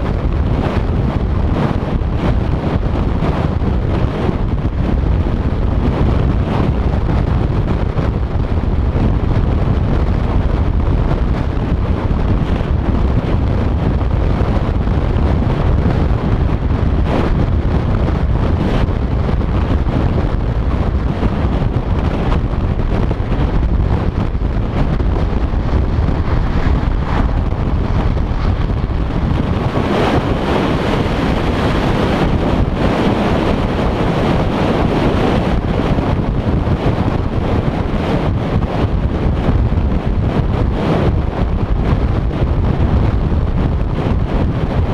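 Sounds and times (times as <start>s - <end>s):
road and tyre noise: 0.0s - 44.9s
wind buffeting microphone: 0.0s - 44.9s.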